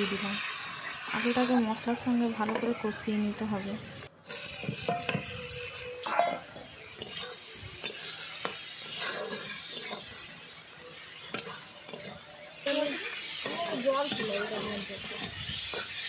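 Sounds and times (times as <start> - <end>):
potatoes sizzling in oil: 0.0 - 16.0
spatula scraping pan: 0.0 - 16.0.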